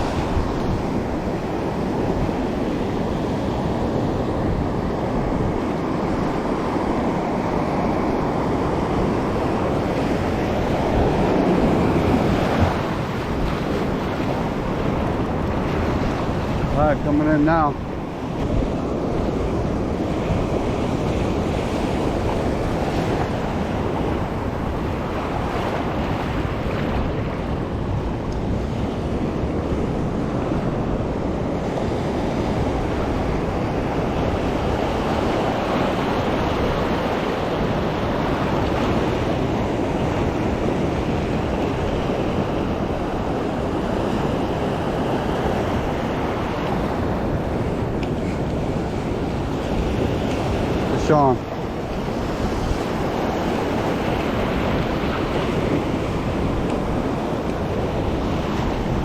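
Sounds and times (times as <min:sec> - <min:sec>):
ocean surf on rocks: 0:00.0 - 0:59.0
wind on microphone: 0:00.0 - 0:59.0.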